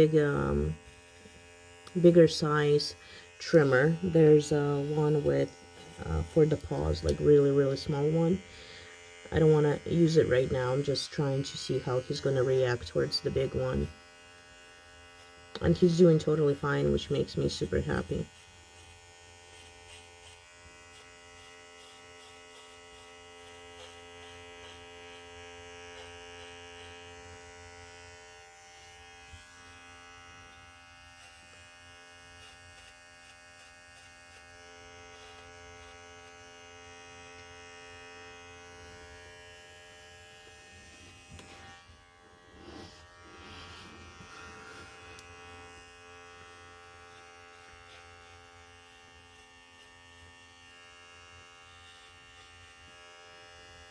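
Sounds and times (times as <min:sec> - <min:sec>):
electric trimmer buzzing: 0:00.0 - 0:53.9.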